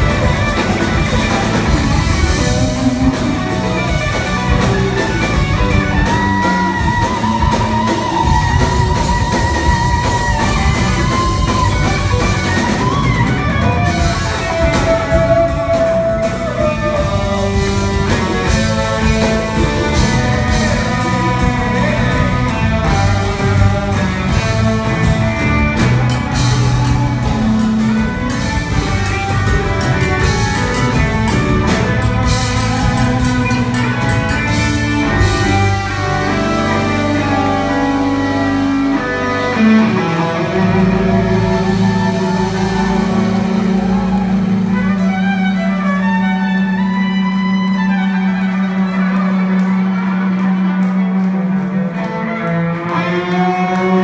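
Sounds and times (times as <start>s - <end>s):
bass: 0.0s - 54.0s
drum kit: 0.0s - 54.0s
guitar lead with held notes: 0.0s - 54.0s.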